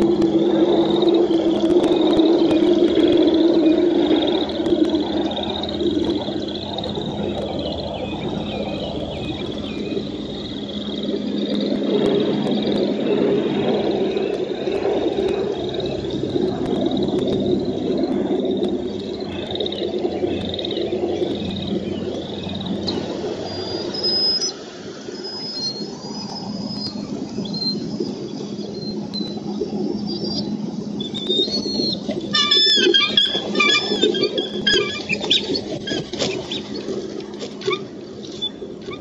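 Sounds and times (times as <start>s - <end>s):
frogs trilling chorus: 0.0s - 39.0s.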